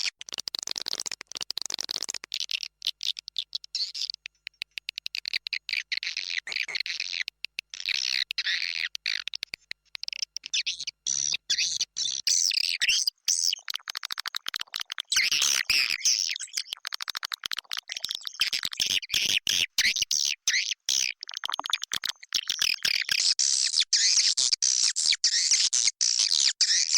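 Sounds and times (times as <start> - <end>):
swiftlet clicking and twittering: 0.9 - 26.9.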